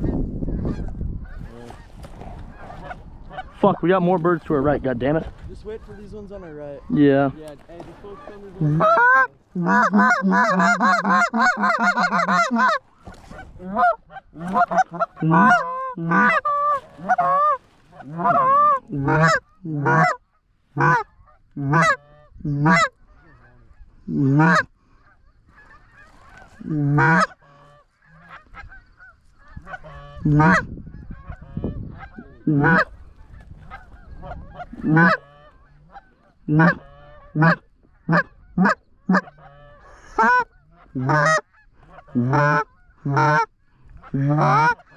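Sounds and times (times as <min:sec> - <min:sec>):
goose honking and clucking: 0:00.0 - 0:07.0, 0:07.7 - 0:44.9.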